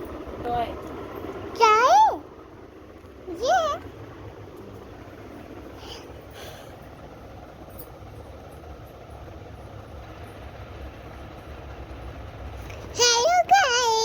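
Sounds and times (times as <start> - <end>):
background rumble and hiss: 0.0 - 14.0.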